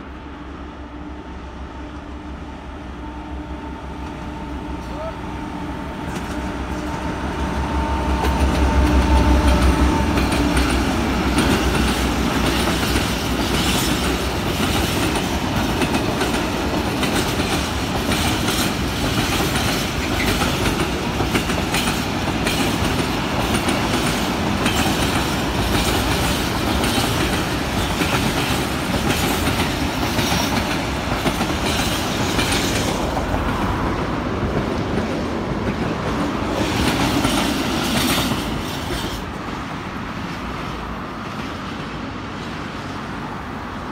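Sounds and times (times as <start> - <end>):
diesel locomotive engine: 0.0 - 43.9
train wheels clickety-clack: 6.0 - 42.6.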